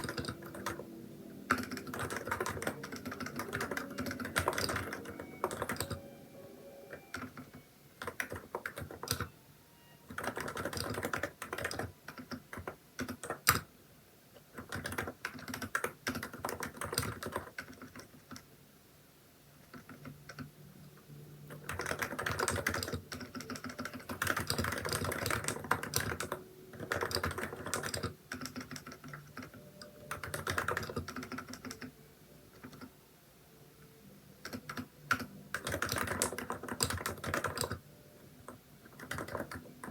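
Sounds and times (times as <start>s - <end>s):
keyboard typing: 0.0s - 9.4s, 10.0s - 13.7s, 14.5s - 18.5s, 19.6s - 20.6s, 21.5s - 32.9s, 34.4s - 37.8s, 38.4s - 39.9s.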